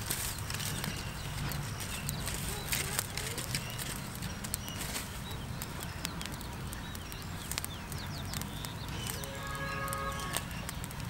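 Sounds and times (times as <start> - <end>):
bird chirps: 0.0 - 11.0
grass fire crackling: 0.0 - 11.0.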